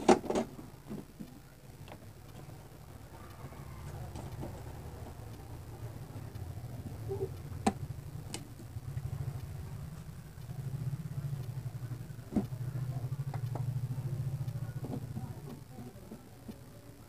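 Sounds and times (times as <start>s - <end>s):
sharp clicks: 0.0s - 15.8s
printer mechanical hum: 0.0s - 17.0s.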